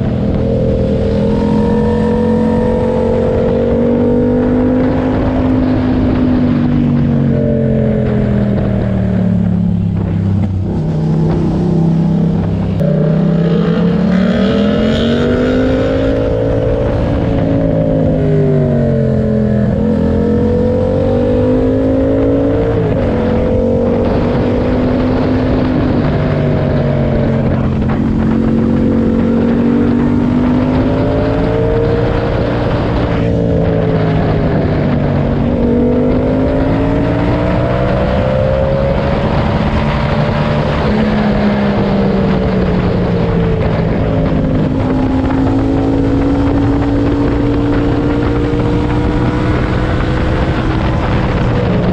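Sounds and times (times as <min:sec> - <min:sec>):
motorcycle engine revving: 0:00.0 - 0:51.9
wind and road noise: 0:00.0 - 0:51.9.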